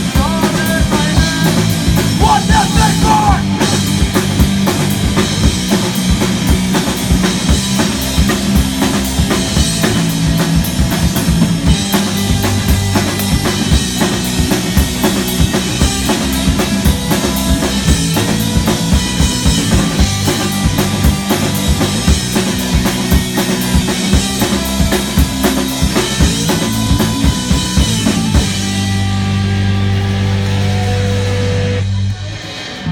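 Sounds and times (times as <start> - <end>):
drum kit hitting: 0.0 - 32.9
rock band playing live: 0.0 - 32.9.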